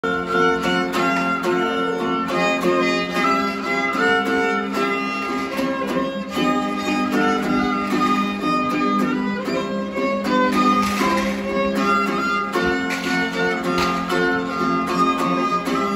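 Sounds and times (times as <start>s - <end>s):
guitar strumming: 0.0s - 15.9s
violin dance melody: 0.0s - 15.9s.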